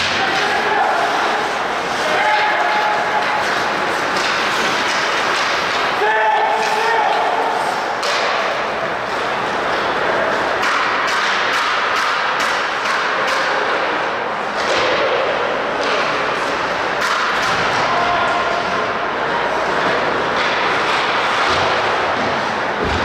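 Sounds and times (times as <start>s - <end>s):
hockey sticks clacking puck: 0.0s - 23.0s
rink background noise: 0.0s - 23.0s.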